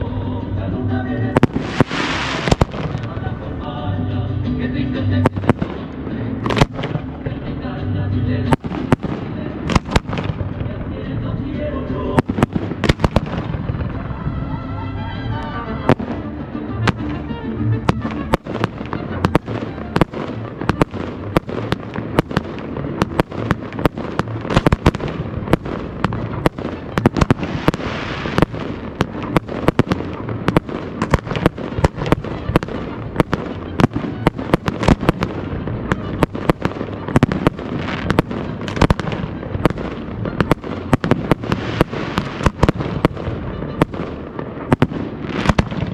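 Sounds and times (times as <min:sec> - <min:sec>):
music playing: 0:00.0 - 0:45.9
fireworks bursts and pops: 0:01.2 - 0:03.4, 0:05.1 - 0:07.4, 0:08.5 - 0:11.0, 0:12.1 - 0:14.2, 0:15.4 - 0:45.9.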